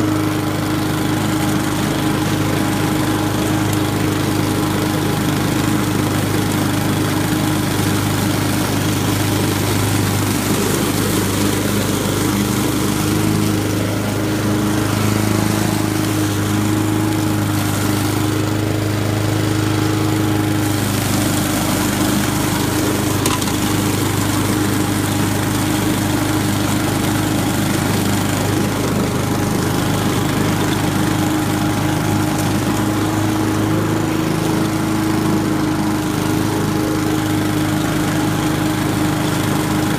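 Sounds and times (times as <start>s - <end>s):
lawn mower engine running: 0.0s - 39.9s
mower cutting through leaves: 0.0s - 39.9s.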